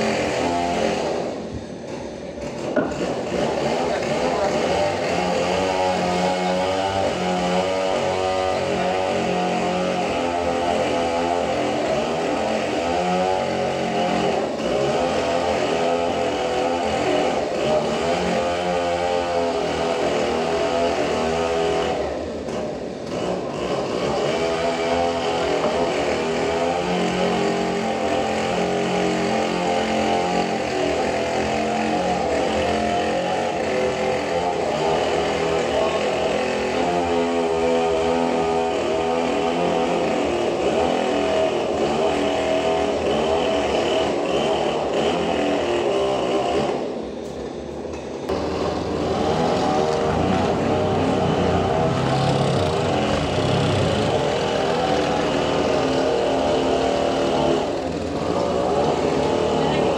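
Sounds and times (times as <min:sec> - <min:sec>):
bandsaw sawing a log: 0:00.0 - 0:47.2, 0:48.3 - 0:59.9.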